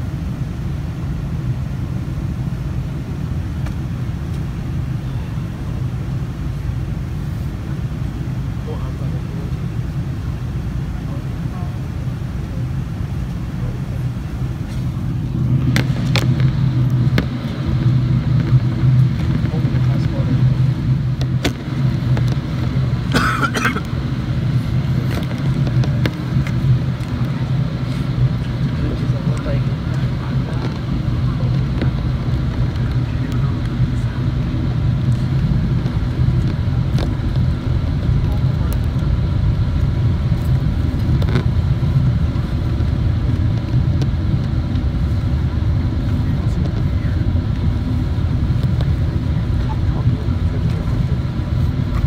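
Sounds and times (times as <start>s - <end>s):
aircraft cabin drone in flight: 0.0s - 52.0s.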